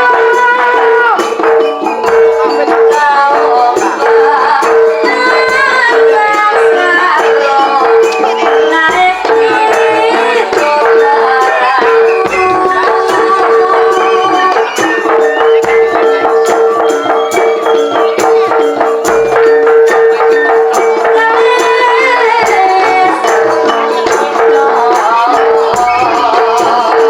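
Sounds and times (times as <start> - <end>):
rattling percussion strikes: 0.0 - 27.0
wavering melody: 0.0 - 27.0.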